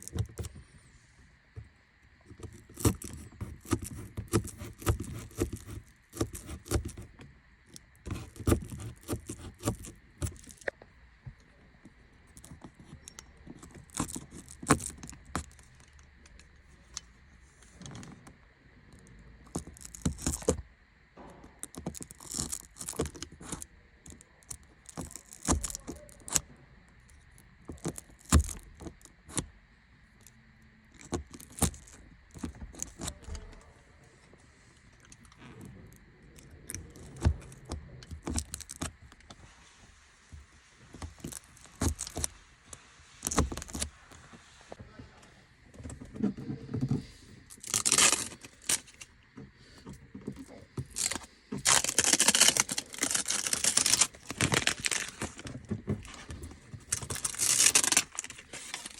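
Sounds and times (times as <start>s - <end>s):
tools clicking and scraping on car parts: 1.5s - 10.8s, 11.8s - 20.6s, 21.2s - 29.5s, 30.9s - 33.6s, 34.8s - 39.5s, 40.2s - 44.4s, 45.7s - 58.9s.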